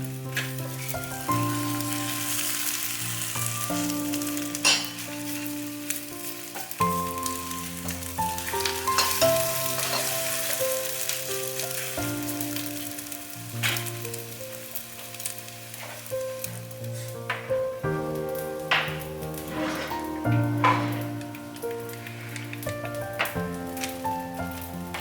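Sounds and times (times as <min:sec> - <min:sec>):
background music of sustained chords: 0:00.0 - 0:25.0
food sizzling in a pan: 0:00.0 - 0:25.0.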